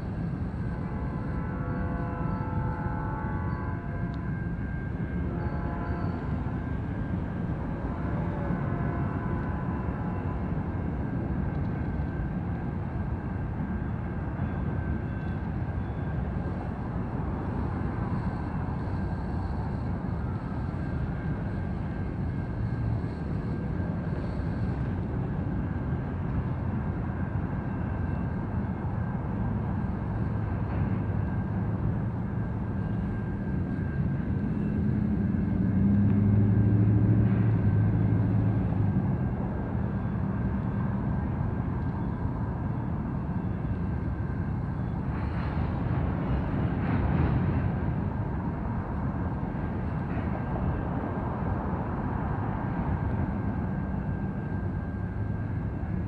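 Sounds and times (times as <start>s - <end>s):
engine drone: 0.0s - 56.0s
freight train wheels rumbling: 0.0s - 56.0s.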